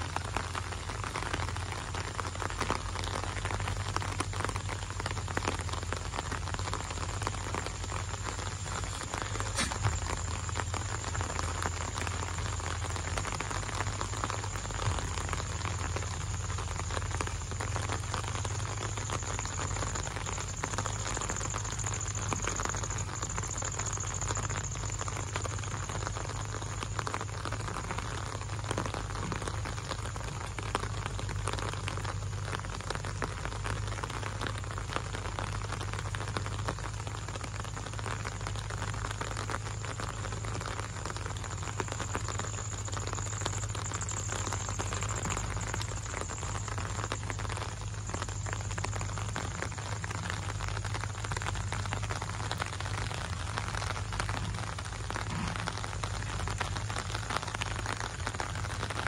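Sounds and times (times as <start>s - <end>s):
low steady hum: 0.0s - 59.0s
rain on leaves and paving: 0.0s - 59.0s.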